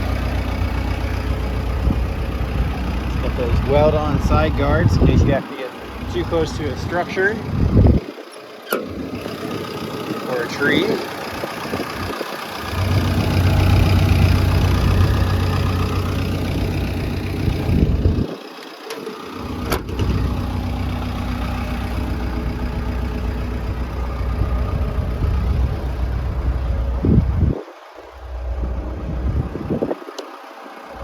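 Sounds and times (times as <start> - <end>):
excavator diesel engine idling: 0.0 - 31.0.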